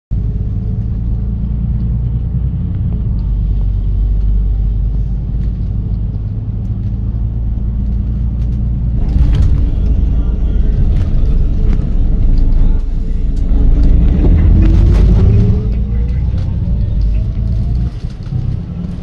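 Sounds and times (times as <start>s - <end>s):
bus engine and tyres rumbling: 0.1s - 19.0s.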